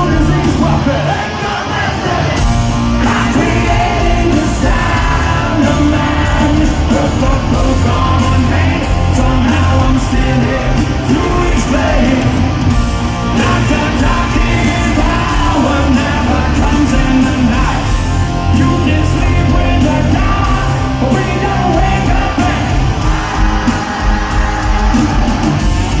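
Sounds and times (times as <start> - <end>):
lead singer's voice: 0.0 - 26.0
live hard rock band: 0.0 - 26.0.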